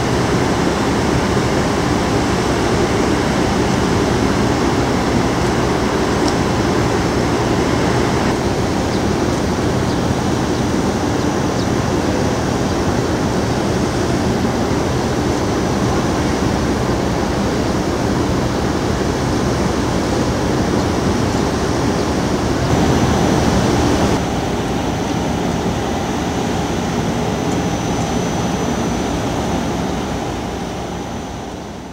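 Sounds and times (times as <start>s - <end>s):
faint machinery hum: 0.0s - 31.9s.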